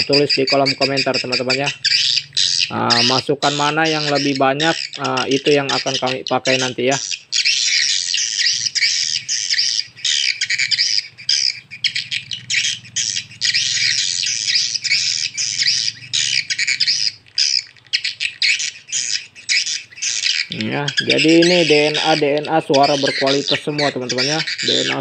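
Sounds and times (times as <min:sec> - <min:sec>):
recorded bird twittering: 0:00.0 - 0:25.0.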